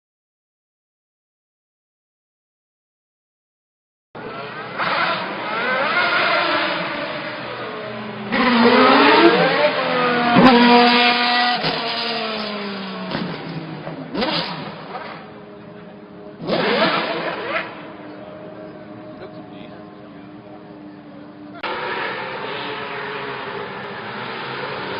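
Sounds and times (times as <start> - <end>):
racing car engine revving: 4.2 - 24.9.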